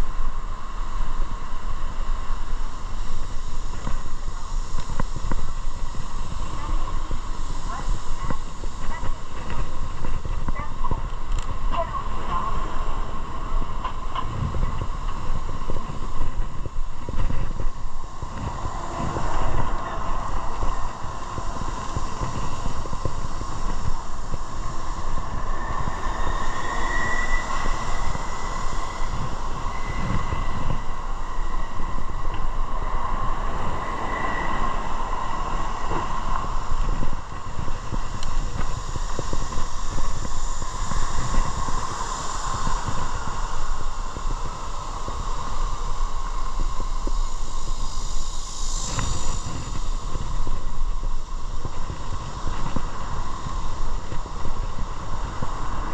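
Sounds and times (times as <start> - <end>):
motorcycle engine drone: 0.0 - 55.9
road and wind noise: 0.0 - 55.9.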